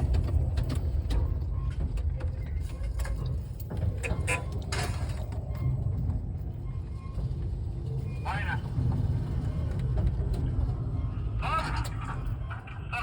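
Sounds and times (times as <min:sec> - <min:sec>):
crane creaking and clicking: 0:00.0 - 0:13.0.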